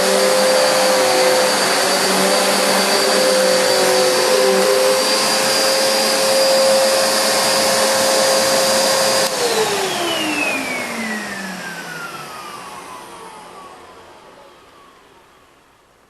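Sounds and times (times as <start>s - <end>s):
vacuum motor spinning down: 0.0s - 15.1s
vacuum cleaner running: 0.0s - 15.3s.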